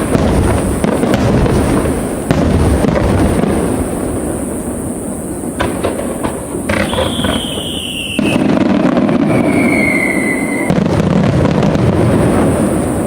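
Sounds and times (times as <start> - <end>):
fireworks rumbling and crackling: 0.0 - 13.0
sharp firework cracks: 0.0 - 13.0
whistling fireworks: 0.0 - 13.0.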